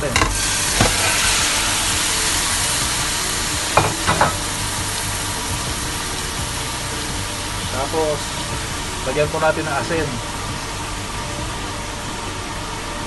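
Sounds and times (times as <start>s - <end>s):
chicken sizzling in hot oil: 0.0s - 13.0s
range hood humming: 0.0s - 13.0s.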